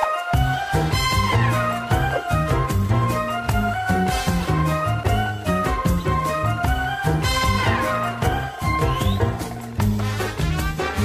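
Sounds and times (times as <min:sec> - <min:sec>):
upbeat music with bass line: 0:00.0 - 0:11.0.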